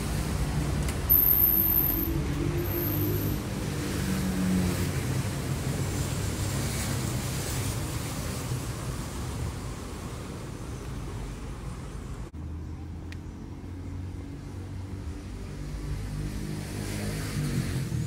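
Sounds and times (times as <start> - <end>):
cars passing: 0.0 - 18.0.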